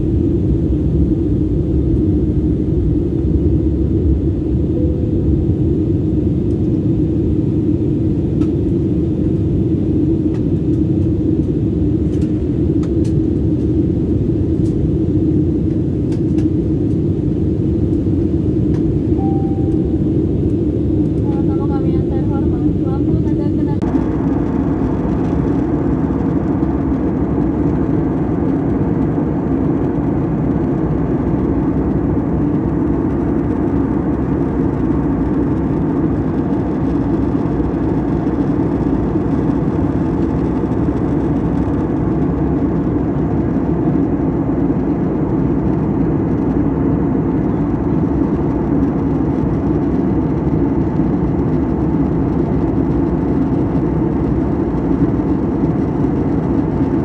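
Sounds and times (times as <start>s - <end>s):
jet cabin drone: 0.0s - 57.0s.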